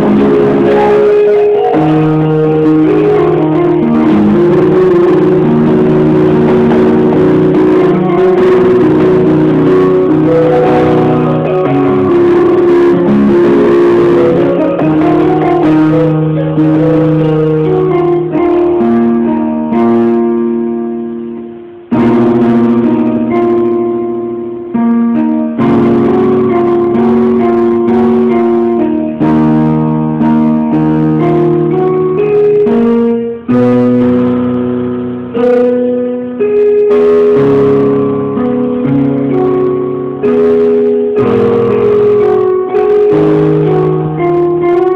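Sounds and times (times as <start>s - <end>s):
electronic keyboard piano chords: 0.0s - 44.9s.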